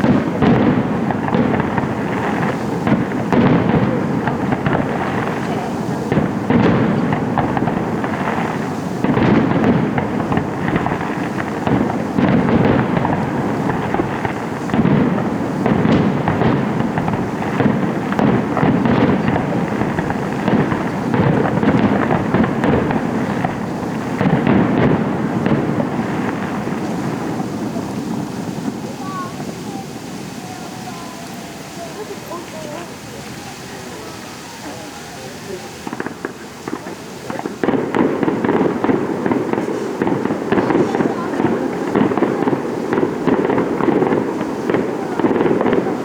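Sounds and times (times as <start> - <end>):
fireworks crackling and rumbling: 0.0 - 46.0
heavy firework booms: 0.0 - 46.0.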